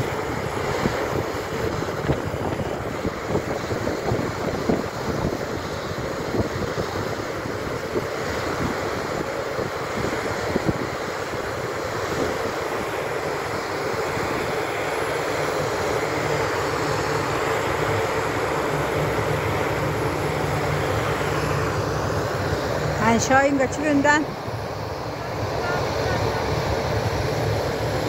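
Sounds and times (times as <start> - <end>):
steady hum: 0.0 - 28.0
water jet rushing roar: 0.0 - 28.0.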